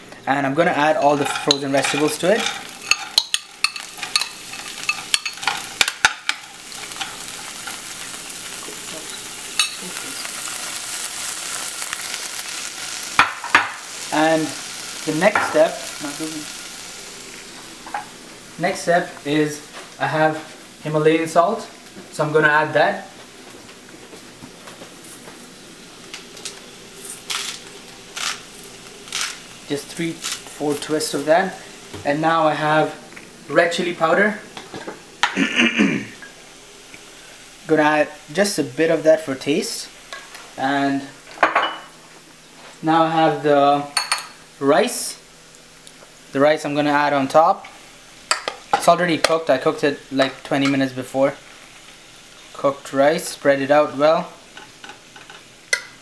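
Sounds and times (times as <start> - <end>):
oil sizzling: 0.0 - 56.0.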